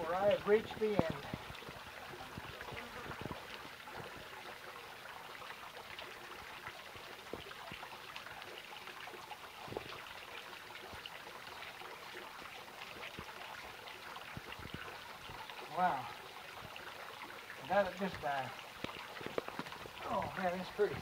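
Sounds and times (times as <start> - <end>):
stream babbling over rocks: 0.0 - 21.0.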